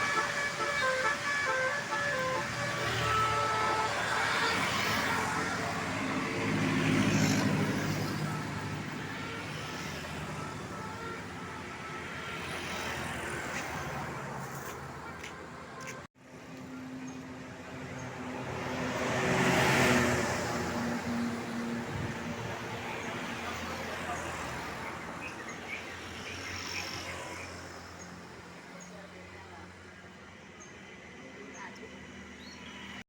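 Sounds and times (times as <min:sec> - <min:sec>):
traffic driving past: 0:00.0 - 0:33.0.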